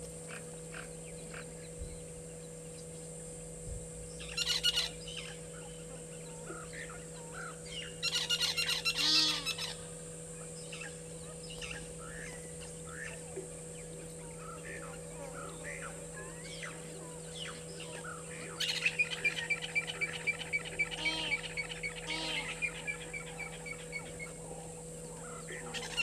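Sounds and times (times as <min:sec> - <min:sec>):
small birds chirping: 0:00.2 - 0:26.0
geese honking: 0:04.4 - 0:09.9, 0:10.7 - 0:26.0.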